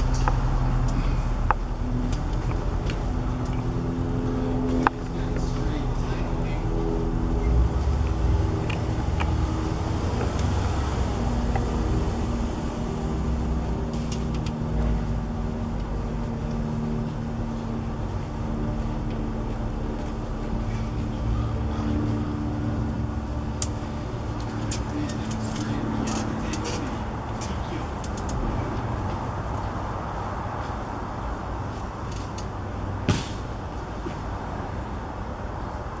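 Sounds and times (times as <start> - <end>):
low mechanical drone: 0.0 - 36.0.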